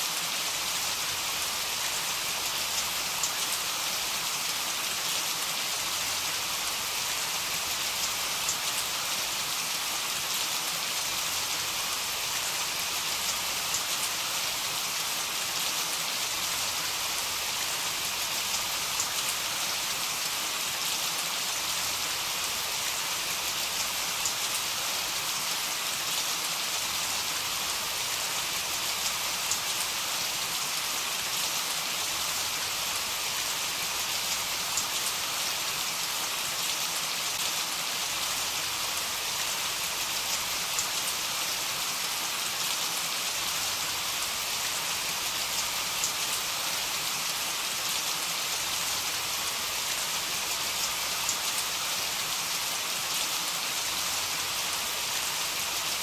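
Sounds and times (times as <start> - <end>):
heavy rain falling: 0.1 - 56.0.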